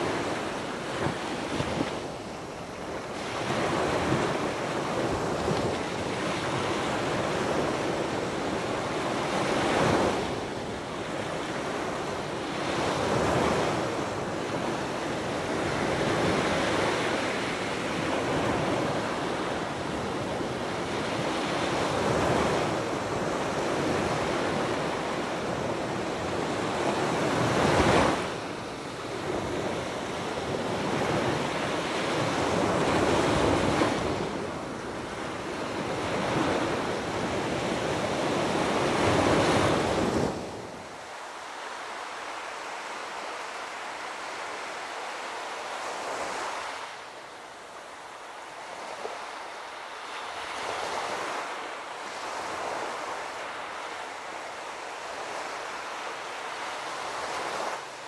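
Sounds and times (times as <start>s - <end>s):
waves breaking on sandy beach: 0.0s - 58.0s.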